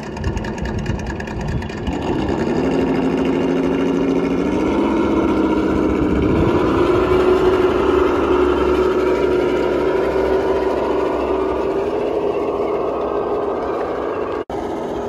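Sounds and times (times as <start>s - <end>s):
wind rumbling on microphone: 0.0s - 14.4s.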